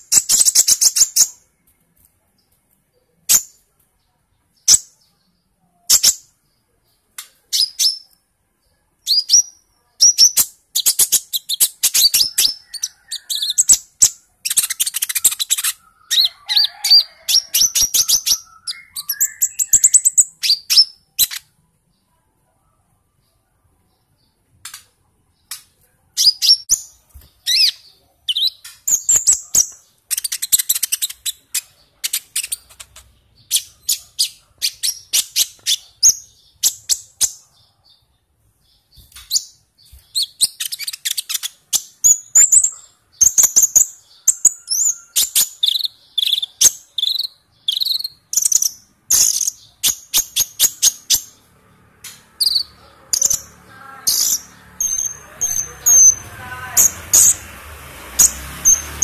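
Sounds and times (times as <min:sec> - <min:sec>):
sunbird singing: 0:04.6 - 0:22.1, 0:26.2 - 0:57.6.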